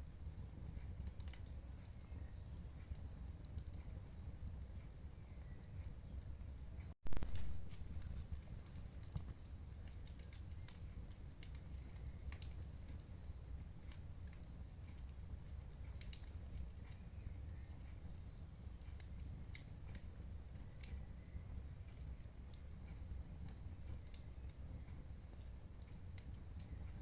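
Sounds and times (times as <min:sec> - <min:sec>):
fire pops and snaps: 0:00.0 - 0:06.4, 0:07.0 - 0:27.0
low rumble of fire: 0:00.0 - 0:27.0.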